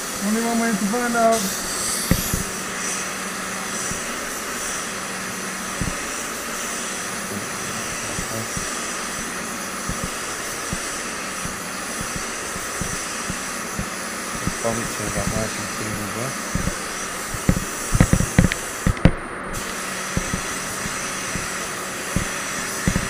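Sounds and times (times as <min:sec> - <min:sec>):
low hum of spray booth: 0:00.0 - 0:23.0
spray gun hissing: 0:00.0 - 0:23.0.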